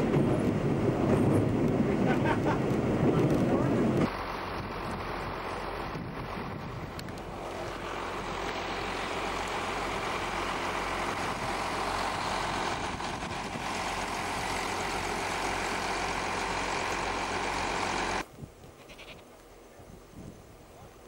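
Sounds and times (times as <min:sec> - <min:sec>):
diesel engine humming: 0:00.0 - 0:18.3.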